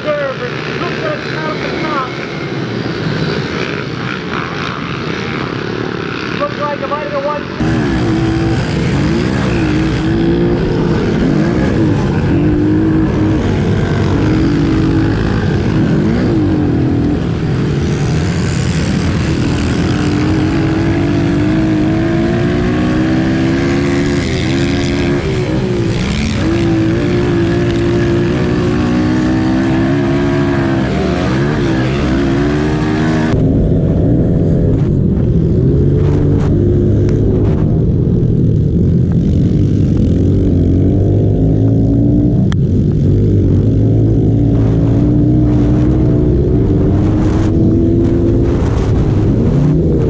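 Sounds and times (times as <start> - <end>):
pit bike engines revving: 0.0 - 50.0.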